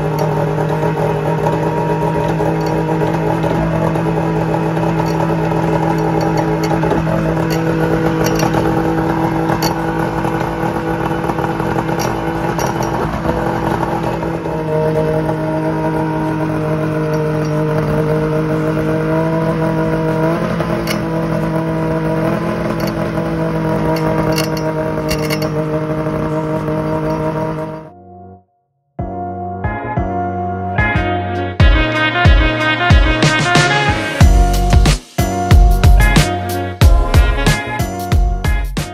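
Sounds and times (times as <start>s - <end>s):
snowmobile engine idling: 0.0s - 27.9s, 31.6s - 38.9s.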